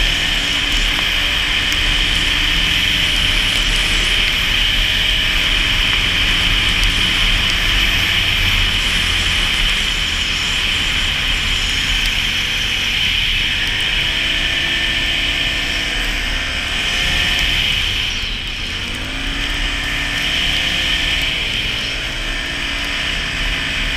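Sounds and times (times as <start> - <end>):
atv engine running: 0.0 - 23.9
wind rumbling on microphone: 0.0 - 23.9.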